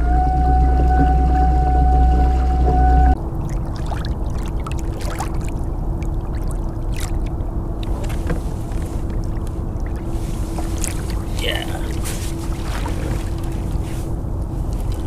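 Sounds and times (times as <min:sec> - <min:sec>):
electric boat motor humming: 0:00.0 - 0:03.4, 0:05.6 - 0:15.0
water rushing along hull: 0:00.0 - 0:15.0
light water splashes: 0:02.7 - 0:15.0.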